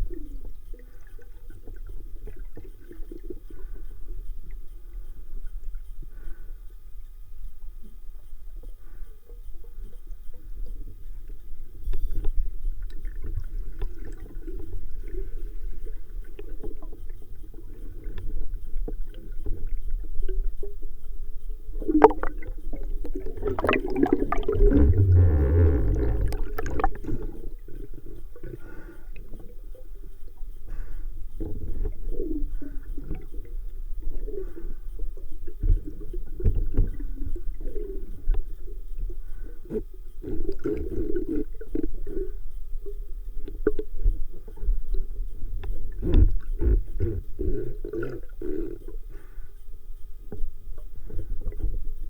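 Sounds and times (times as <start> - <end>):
muffled underwater rumble: 0.0 - 52.0.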